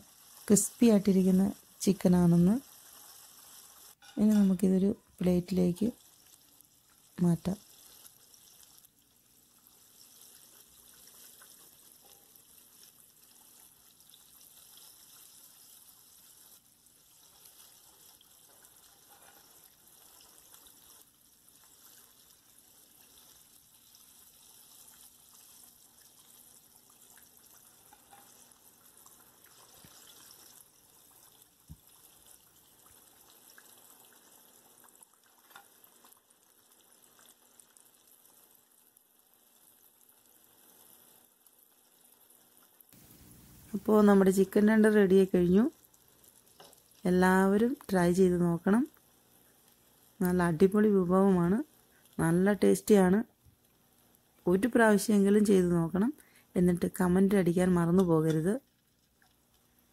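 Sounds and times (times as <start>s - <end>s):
food sizzling in hot oil: 0.0s - 58.8s.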